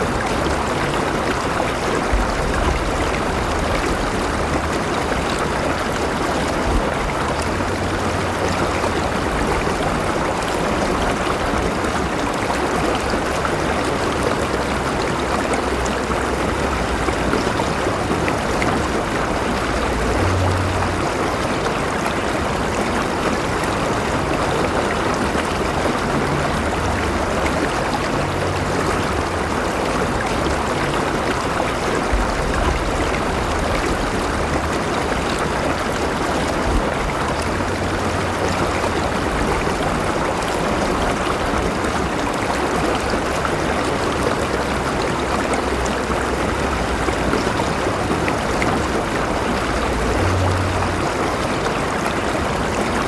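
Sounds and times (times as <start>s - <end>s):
river flowing over stones: 0.0s - 53.0s.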